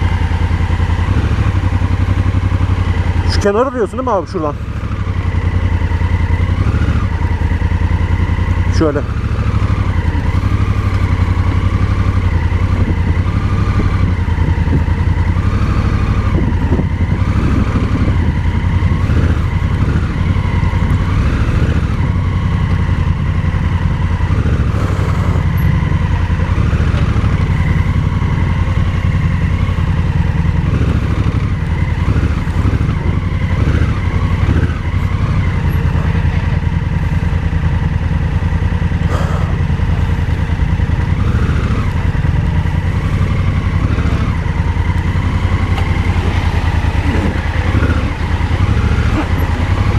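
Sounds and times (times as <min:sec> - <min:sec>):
vehicle engine rumbling: 0:00.0 - 0:49.9.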